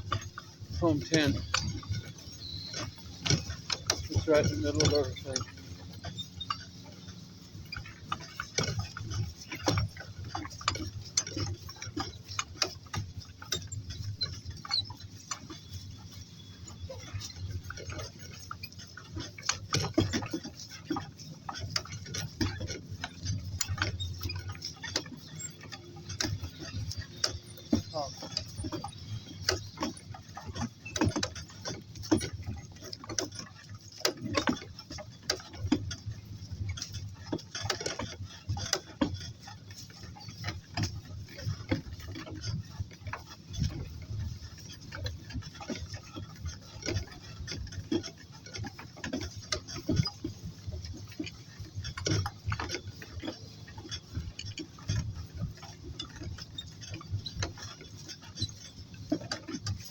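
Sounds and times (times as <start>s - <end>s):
donkey hooves clicking: 0.0s - 59.9s
gear rattling: 0.0s - 59.9s.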